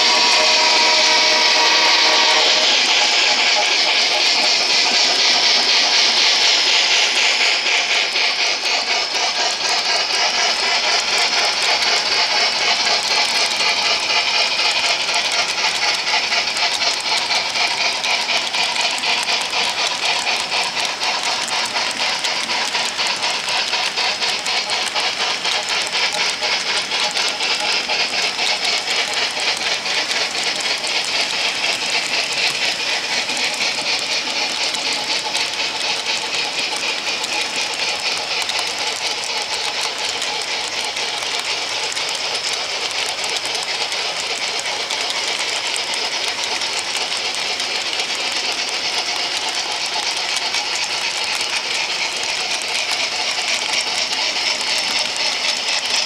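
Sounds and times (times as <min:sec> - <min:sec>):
model train wheels clattering: 0:00.0 - 0:56.0.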